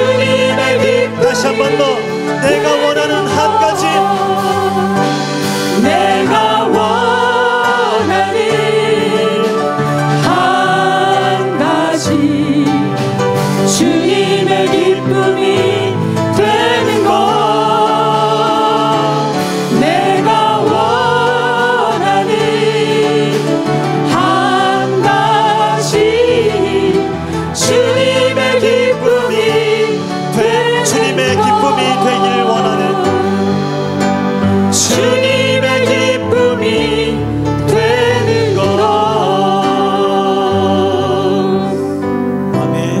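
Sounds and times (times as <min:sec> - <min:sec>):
instrumental accompaniment: 0:00.0 - 0:43.0
mixed voices singing worship song: 0:00.0 - 0:43.0.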